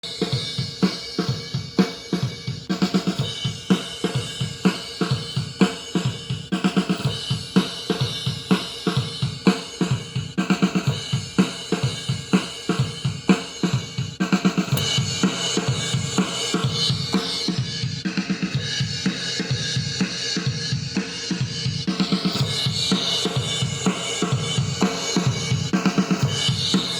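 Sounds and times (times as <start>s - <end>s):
drum kit groove: 0.0s - 26.9s.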